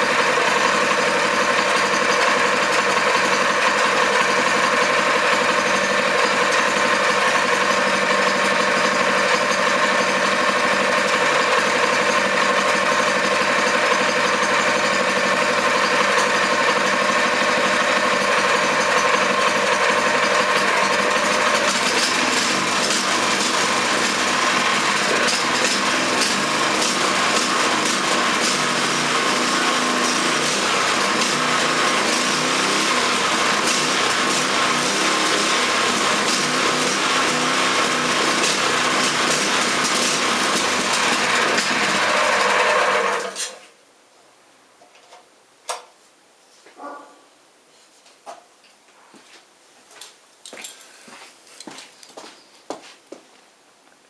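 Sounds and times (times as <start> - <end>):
engine rattling and clicking: 0.0 - 43.4
small engine running: 0.0 - 43.6.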